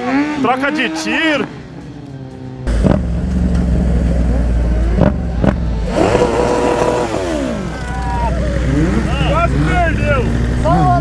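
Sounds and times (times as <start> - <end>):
motorcycle engine revving: 0.0 - 11.0
motorcycle engine rumble: 0.0 - 11.0.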